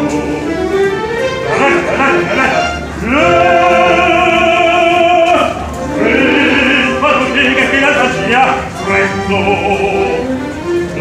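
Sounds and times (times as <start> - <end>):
man singing opera: 1.5 - 11.0.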